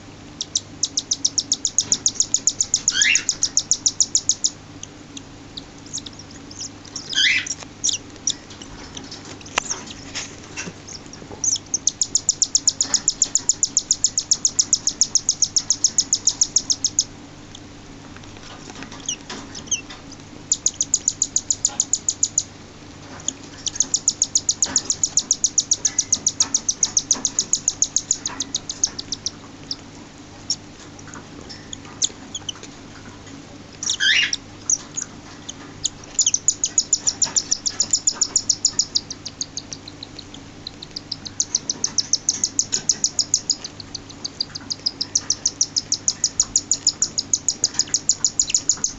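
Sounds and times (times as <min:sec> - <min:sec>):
chicks chirping rapidly: 0:00.3 - 0:17.7, 0:18.6 - 0:22.6, 0:23.2 - 0:33.0, 0:33.8 - 0:48.9.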